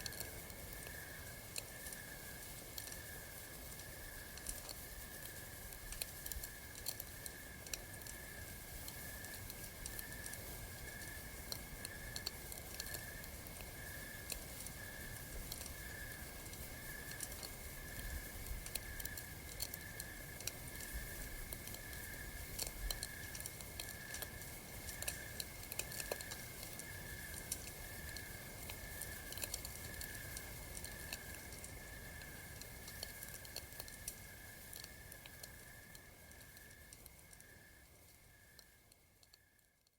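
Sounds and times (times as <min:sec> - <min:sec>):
campfire crackling and popping: 0:00.0 - 0:39.4
night insects chirping: 0:00.0 - 0:39.7.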